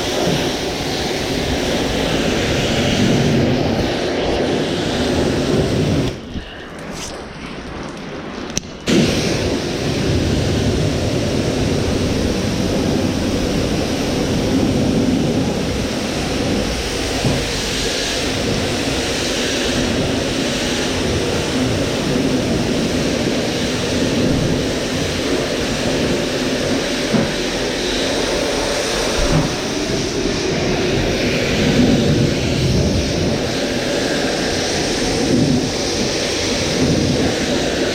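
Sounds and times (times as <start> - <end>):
pressure washer spraying: 0.0 - 6.3, 8.9 - 37.9.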